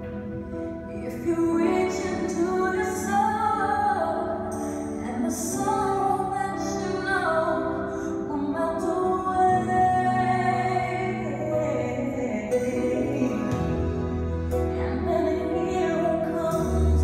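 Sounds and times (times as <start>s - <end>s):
woman singing: 0.9s - 17.0s.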